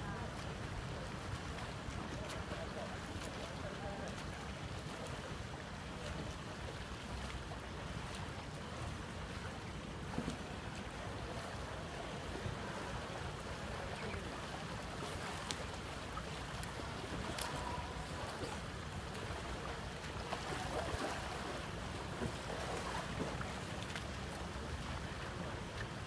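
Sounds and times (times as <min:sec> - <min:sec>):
water lapping in pool: 0:00.0 - 0:26.0.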